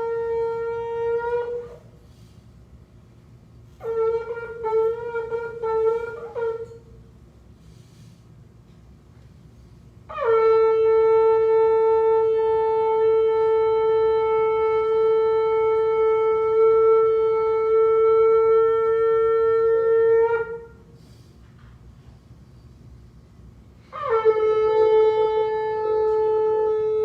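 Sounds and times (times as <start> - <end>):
shofar long blast: 0.0 - 2.4, 3.6 - 8.2, 9.6 - 21.2, 23.6 - 27.0.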